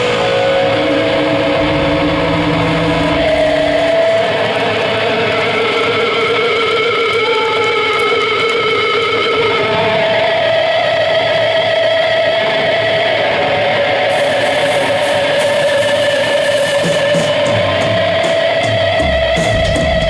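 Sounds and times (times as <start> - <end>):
cymbal wash: 0.0 - 7.5, 8.3 - 20.0
electric guitar feedback: 0.0 - 20.0.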